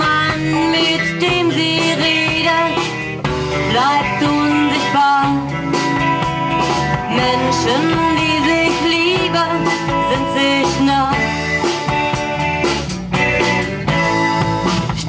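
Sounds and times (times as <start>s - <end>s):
live band with electric guitars: 0.0s - 15.0s.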